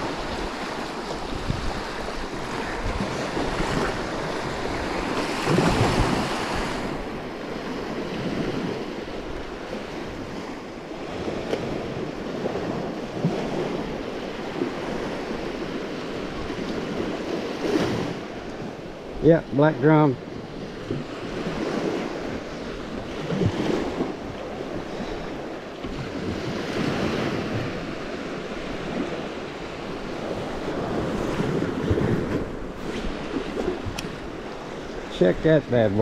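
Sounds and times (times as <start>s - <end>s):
wind on microphone: 0.0s - 19.4s, 20.2s - 36.0s
small waves breaking on beach: 0.0s - 36.0s.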